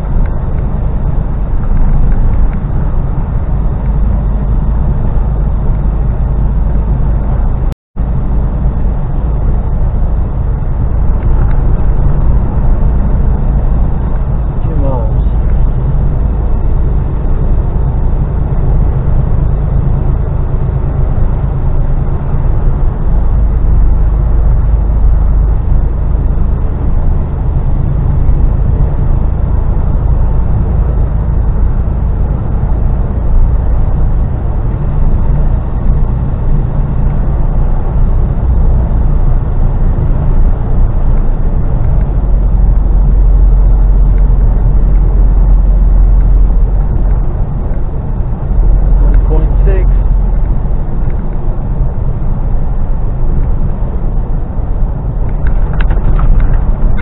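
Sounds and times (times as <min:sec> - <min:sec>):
lorry engine and road rumble: 0:00.0 - 0:57.0.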